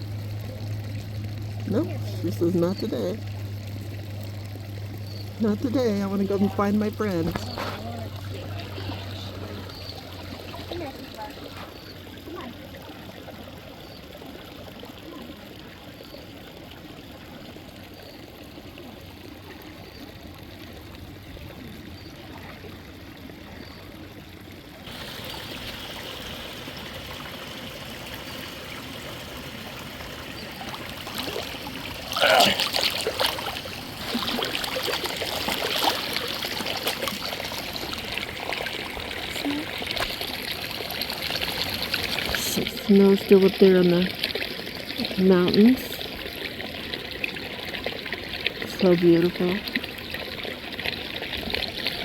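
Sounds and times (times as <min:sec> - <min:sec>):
water splashing: 0:00.0 - 0:14.4, 0:24.7 - 0:52.0
stream water trickling: 0:00.0 - 0:52.0.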